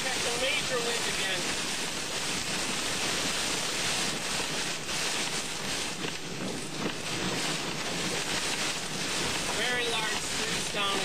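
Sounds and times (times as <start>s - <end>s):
heavy rain on a car: 0.0s - 11.0s
strong wind: 0.0s - 11.0s.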